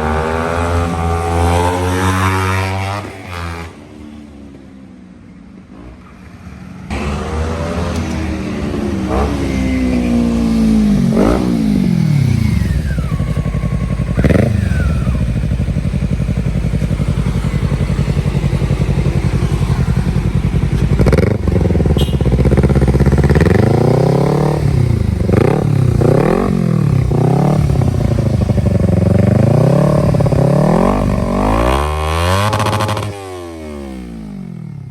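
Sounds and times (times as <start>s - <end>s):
motorcycle engine revving: 0.0s - 4.0s, 5.6s - 34.9s.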